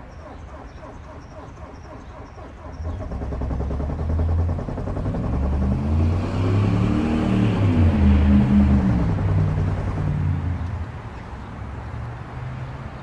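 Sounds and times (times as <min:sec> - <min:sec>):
diesel engine cranking and idling: 0:00.0 - 0:12.0.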